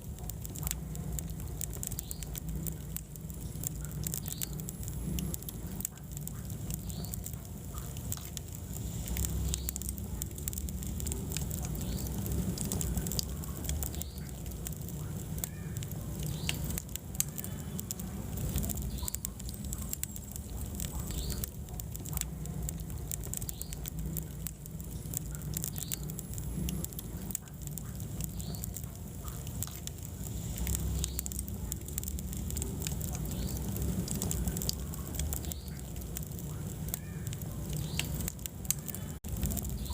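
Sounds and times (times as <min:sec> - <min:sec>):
fire flames rumbling: 0:00.0 - 0:39.9
wood crackling and popping: 0:00.0 - 0:39.9.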